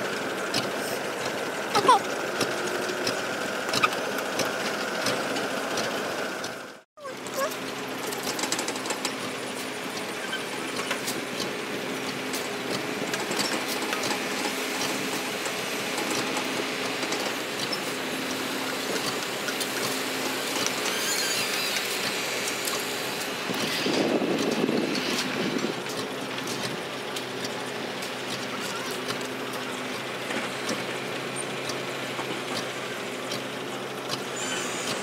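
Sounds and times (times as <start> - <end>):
excavator diesel engine running: 0.0 - 35.0
machinery clicks and clanks: 0.0 - 35.0.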